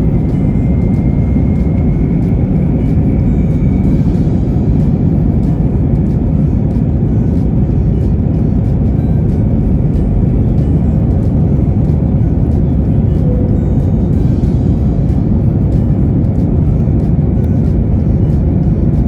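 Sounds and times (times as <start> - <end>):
jet engines and airflow in cabin: 0.0 - 19.0.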